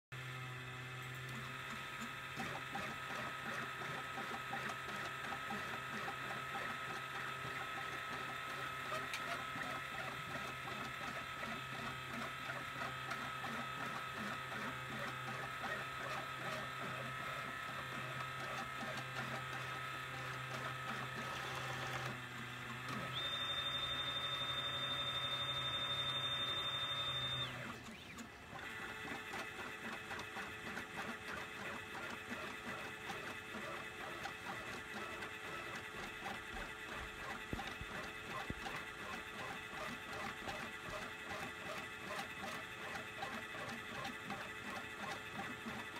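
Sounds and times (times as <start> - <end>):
pen plotter stepper motors whining: 0.2 - 45.9.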